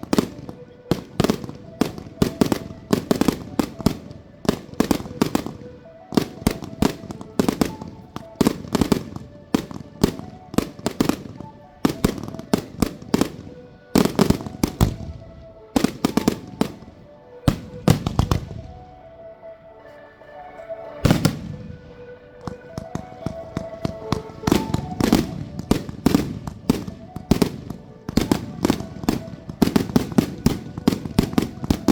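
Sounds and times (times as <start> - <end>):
fireworks bangs and crackling: 0.0 - 18.9, 21.0 - 31.9.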